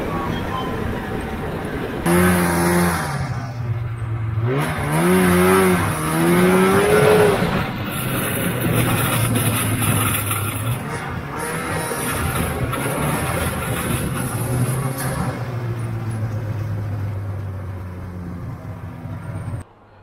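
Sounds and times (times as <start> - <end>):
snowmobile engine steady: 0.0 - 19.6
snowmobile engine revving: 2.0 - 19.4.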